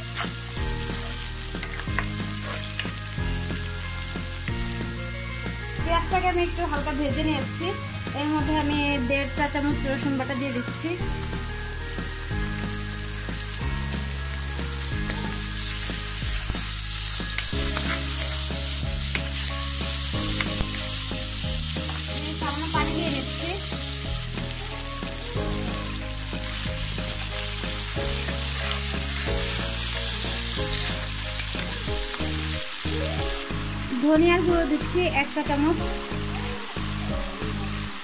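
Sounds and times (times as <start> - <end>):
onions sizzling in hot oil: 0.0 - 38.0.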